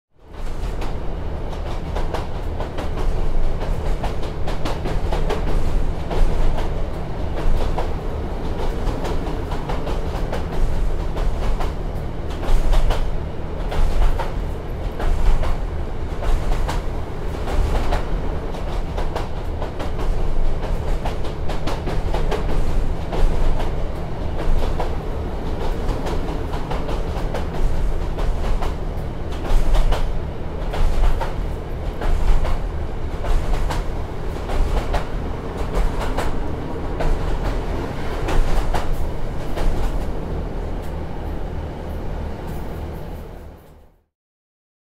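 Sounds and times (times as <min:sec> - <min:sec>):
train engine and wheels rumbling: 0:00.1 - 0:44.1.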